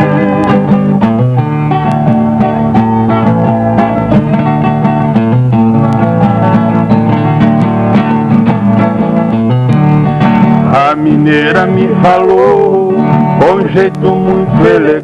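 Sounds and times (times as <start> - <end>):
plucked string instruments melody: 0.0 - 15.0.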